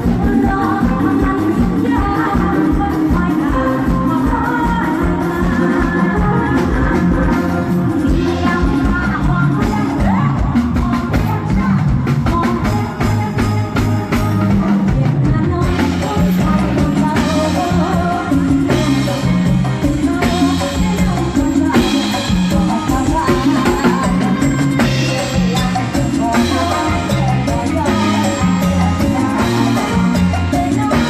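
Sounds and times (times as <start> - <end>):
bass line: 0.0 - 31.0
drum kit: 0.0 - 31.0
live band playing loudly: 0.0 - 31.0.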